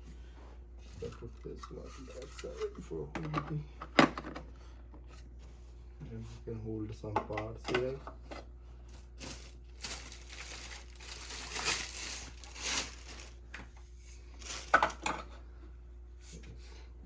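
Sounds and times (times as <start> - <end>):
rustling and crinkling handling: 0.0 - 16.5.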